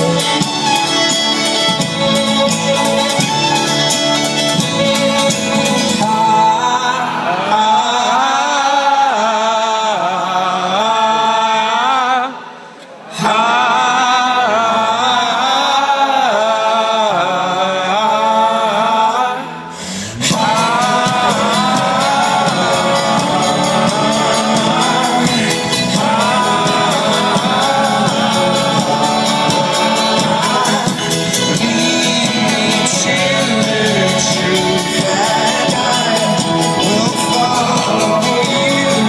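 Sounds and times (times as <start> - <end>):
folk-rock band playing loudly: 0.0 - 11.6, 14.2 - 39.0
person singing: 0.0 - 39.0.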